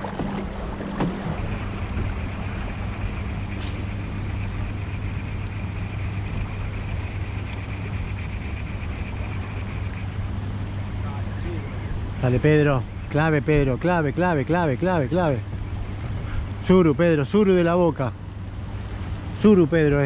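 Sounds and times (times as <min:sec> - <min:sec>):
boat motor humming: 0:00.0 - 0:20.0
water noise: 0:00.0 - 0:20.0.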